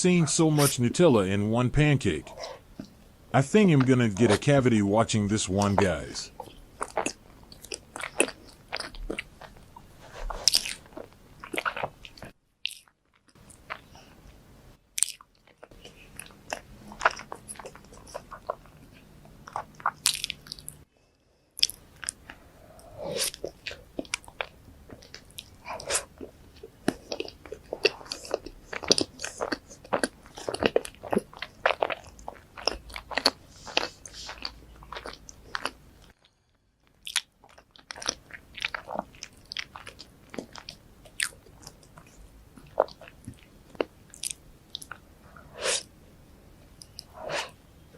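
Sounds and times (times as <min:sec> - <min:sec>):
close chewing and wet smacks: 0:02.1 - 0:03.0, 0:03.7 - 0:20.9, 0:21.6 - 0:46.0, 0:46.6 - 0:47.9.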